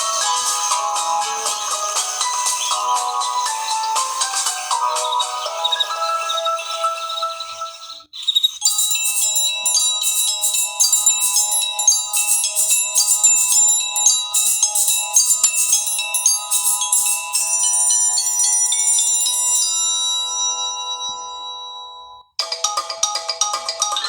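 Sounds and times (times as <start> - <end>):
phone ringtone melody: 0.0 - 8.1, 8.7 - 24.0.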